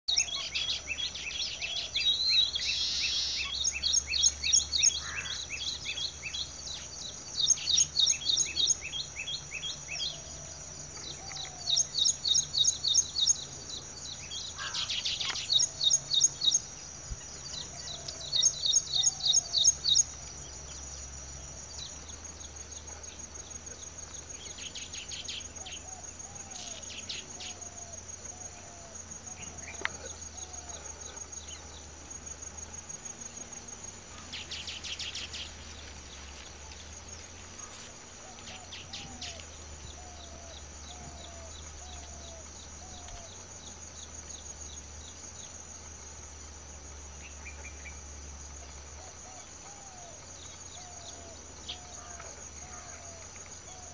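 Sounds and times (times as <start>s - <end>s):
birds chattering high chirps: 0.1s - 45.6s, 47.1s - 53.9s
high insect trill: 0.1s - 53.9s.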